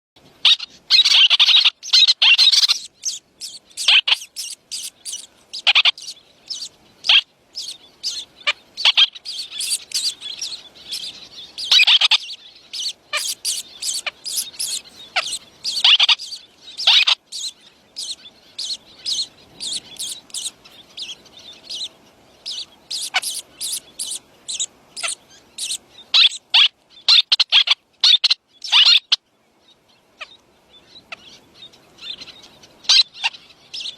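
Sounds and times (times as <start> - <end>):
young birds chirping: 0.4 - 33.9.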